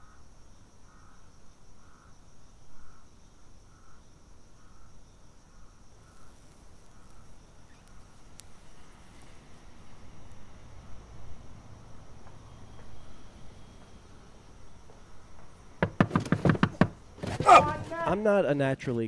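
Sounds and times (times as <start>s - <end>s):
soft insect chirp: 0.0s - 18.8s.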